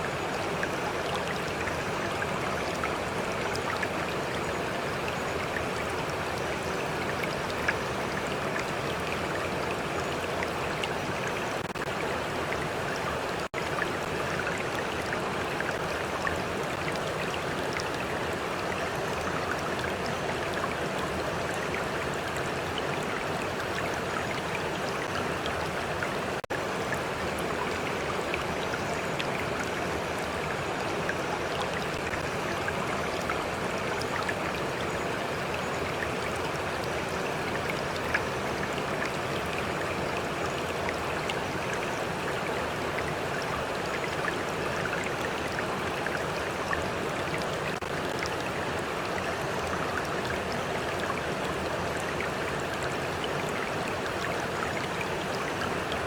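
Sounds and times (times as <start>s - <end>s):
stream flowing and splashing: 0.0s - 56.0s.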